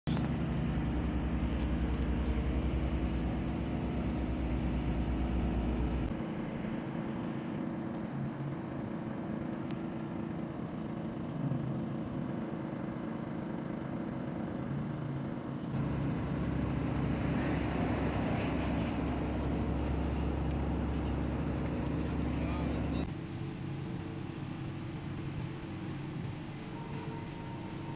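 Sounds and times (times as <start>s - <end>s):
engine humming: 0.0s - 27.9s.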